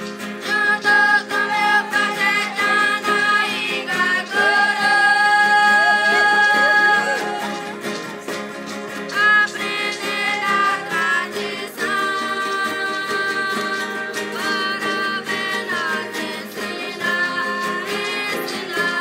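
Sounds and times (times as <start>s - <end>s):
plucked acoustic guitar: 0.0s - 19.0s
person singing: 0.4s - 8.0s, 9.1s - 19.0s.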